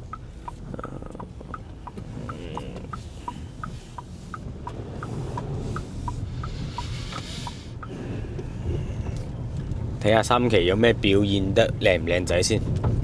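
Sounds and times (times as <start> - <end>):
car cabin rumble: 0.0 - 13.0
turn signal ticking: 0.0 - 13.0.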